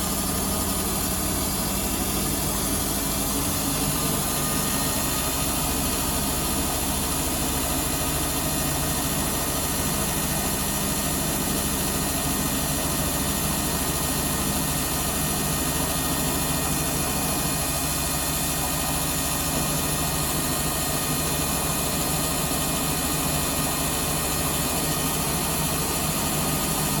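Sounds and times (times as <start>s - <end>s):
washing machine motor running: 0.0s - 27.0s.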